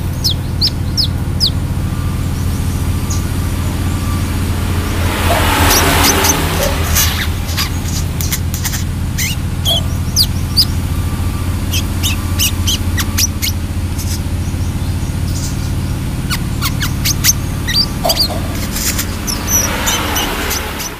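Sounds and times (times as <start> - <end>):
bird chirping and twittering: 0.0 - 20.9
steady low hum: 0.0 - 20.9.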